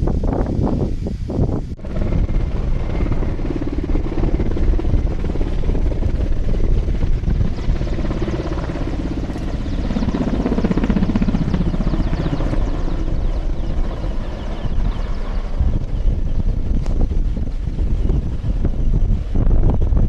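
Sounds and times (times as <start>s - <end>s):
helicopter rotor chopping: 1.7s - 20.0s.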